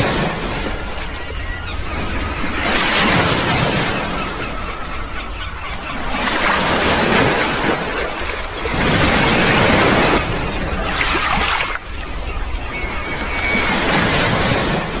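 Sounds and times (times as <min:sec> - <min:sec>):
sea water rushing and splashing: 0:00.0 - 0:15.0.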